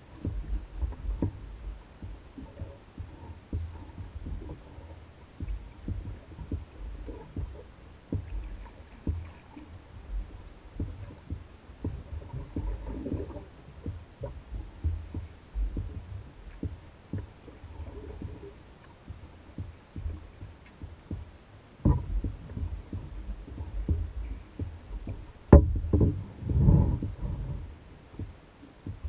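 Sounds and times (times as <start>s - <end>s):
low rumble: 0.0s - 29.0s
waves slapping canoe hull: 0.0s - 29.0s.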